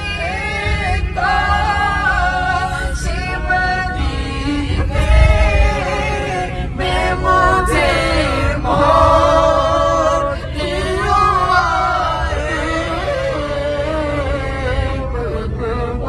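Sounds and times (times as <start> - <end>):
group singing devotional song: 0.0 - 16.0.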